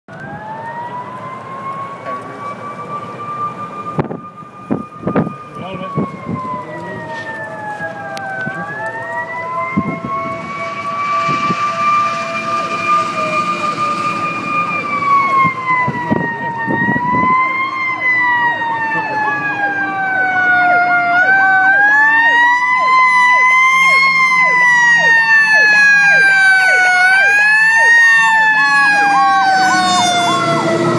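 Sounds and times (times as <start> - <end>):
fire engine siren wailing: 0.1 - 30.9
truck engine rumble: 0.1 - 30.9
yelping siren sweep: 0.1 - 30.9.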